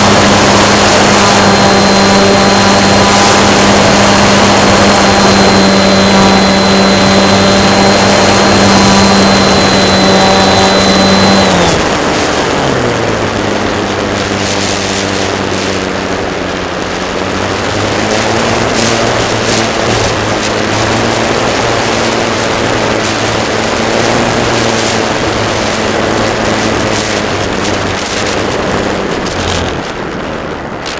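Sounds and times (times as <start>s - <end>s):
airflow rushing over microphone: 0.0s - 30.9s
model plane motor and propeller hum: 0.0s - 30.9s.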